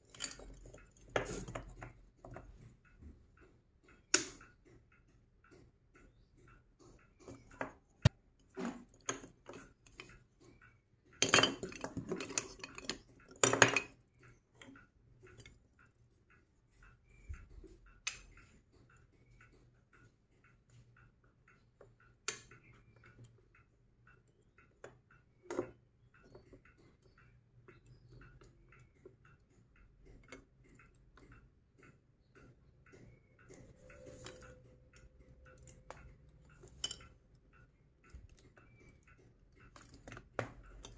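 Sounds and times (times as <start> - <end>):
magnetic toy pieces clicking: 3.5 - 17.3, 20.4 - 40.9.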